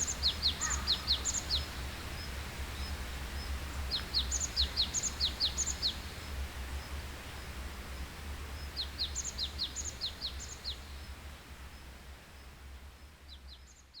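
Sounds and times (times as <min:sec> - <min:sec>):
forest ambience hiss: 0:00.0 - 0:14.0
songbirds chirping: 0:00.0 - 0:14.0.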